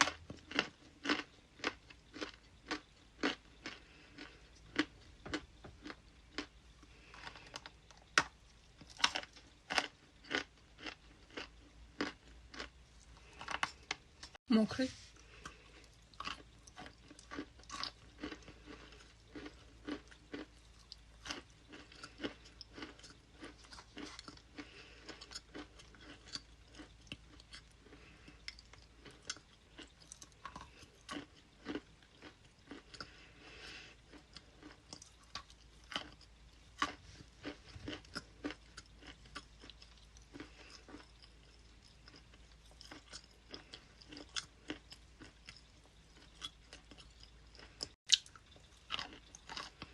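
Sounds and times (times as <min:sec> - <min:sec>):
crisp chewing crunches: 0:00.0 - 0:14.4, 0:15.1 - 0:49.9.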